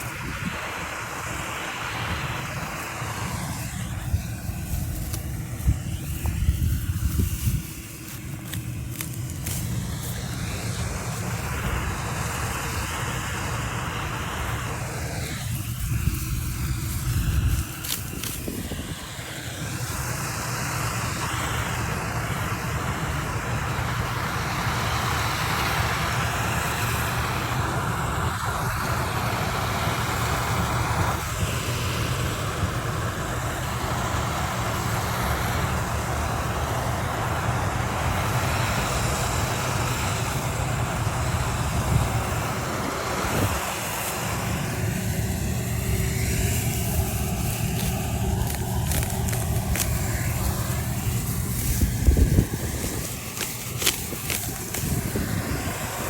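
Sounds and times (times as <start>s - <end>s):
harvesting machine engine running: 0.0s - 56.0s.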